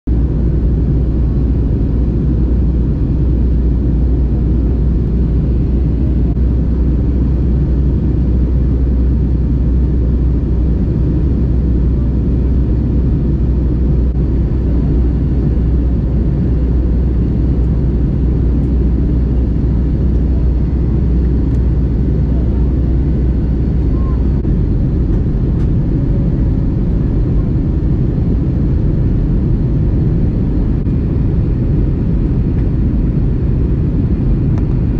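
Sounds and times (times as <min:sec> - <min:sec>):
jet engine rumble in cabin: 0:00.0 - 0:34.9.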